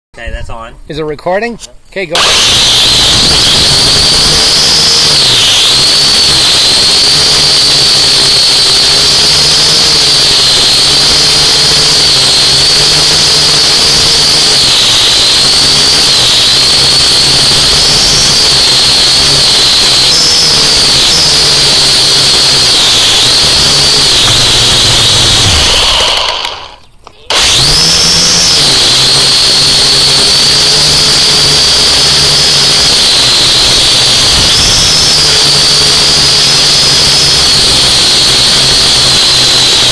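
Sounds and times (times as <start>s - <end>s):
toy car motor whining: 2.2s - 39.9s.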